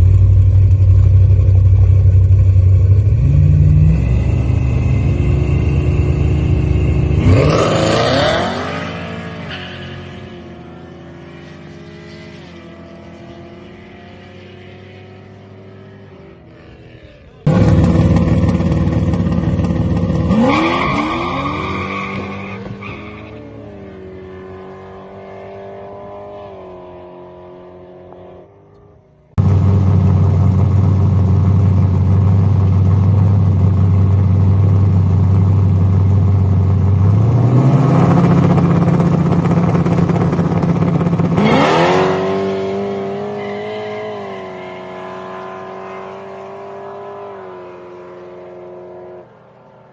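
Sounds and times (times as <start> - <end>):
racing car engines at full throttle: 0.0 - 49.9.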